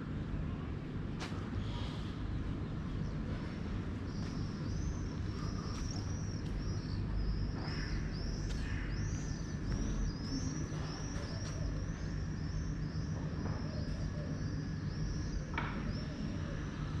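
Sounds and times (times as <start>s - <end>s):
low rumble of city traffic: 0.0s - 17.0s
small birds chirping: 1.3s - 17.0s.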